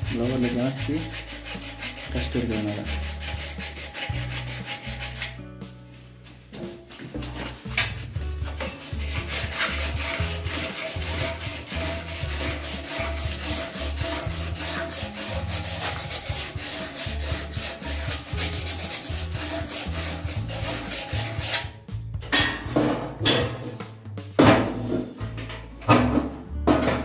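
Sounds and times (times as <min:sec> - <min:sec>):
sandpaper rubbing on metal shaft: 0:00.0 - 0:21.8.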